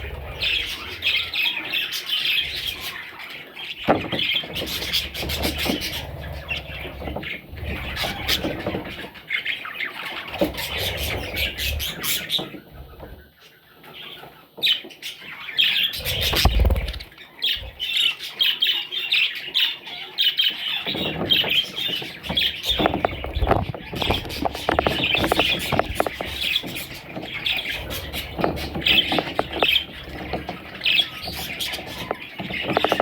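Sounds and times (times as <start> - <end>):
budgerigars squawking and chirping: 0.0 - 33.0.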